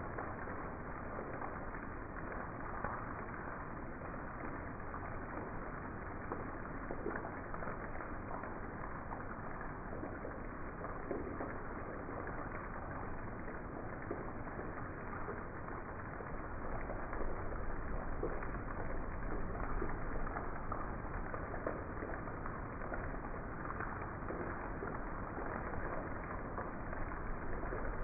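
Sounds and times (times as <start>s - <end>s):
heavy rain on grass and pavement: 0.0s - 28.0s.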